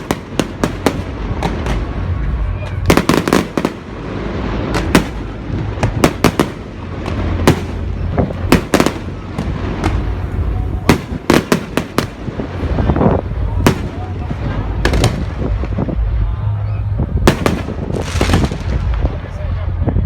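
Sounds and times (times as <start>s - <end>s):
fireworks bangs and cracks: 0.0s - 20.0s
low rumble: 0.0s - 20.0s.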